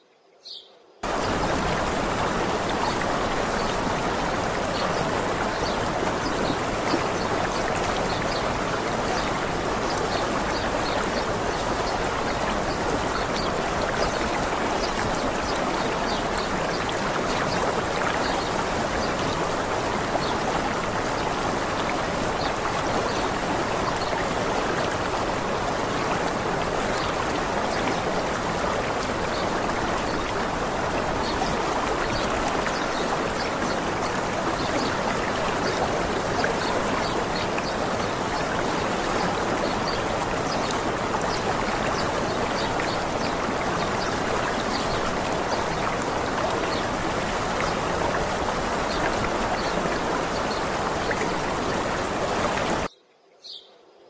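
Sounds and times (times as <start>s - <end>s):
waterfall rushing: 1.0s - 52.9s.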